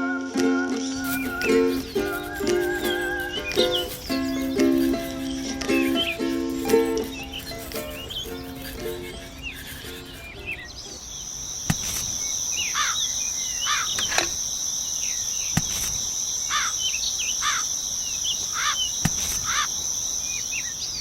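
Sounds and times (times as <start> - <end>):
bird chirps: 0.0 - 21.0
insect trill: 0.0 - 21.0.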